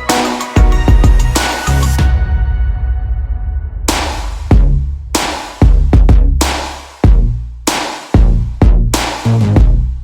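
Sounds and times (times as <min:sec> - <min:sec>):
electronic music with drum-machine beat: 0:00.0 - 0:02.5, 0:03.8 - 0:10.0.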